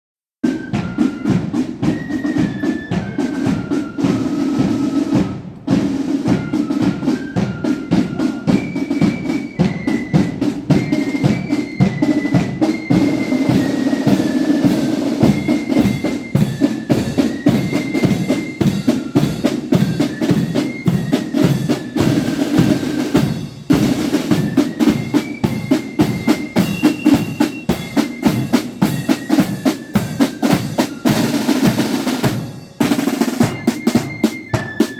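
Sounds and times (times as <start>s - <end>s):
flute melody: 0.4s - 34.9s
snare drum rolls: 0.4s - 34.9s.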